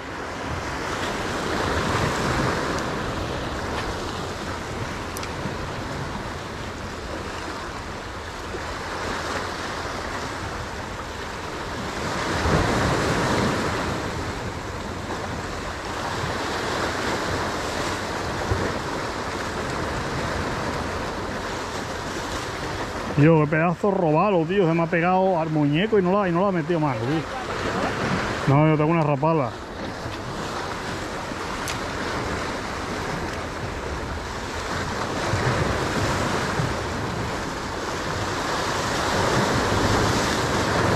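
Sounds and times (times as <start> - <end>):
waves breaking over rocks: 0.0 - 40.9.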